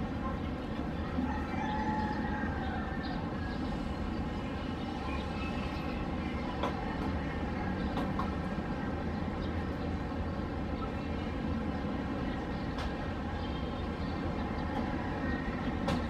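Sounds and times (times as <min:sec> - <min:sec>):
distant city traffic rumble: 0:00.0 - 0:16.0.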